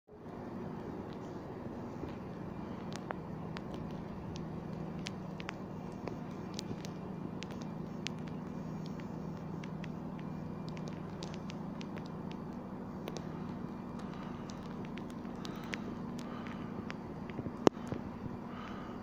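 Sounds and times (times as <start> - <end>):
low hum: 0.1 - 19.0
sharp clicks and ticks: 2.0 - 18.8.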